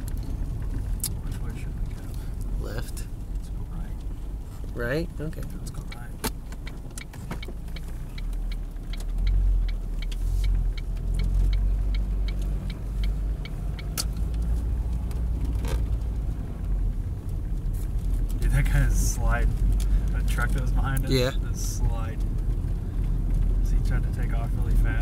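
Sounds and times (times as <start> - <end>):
engine and road rumble: 0.0 - 25.0
turn signal ticking: 0.0 - 25.0.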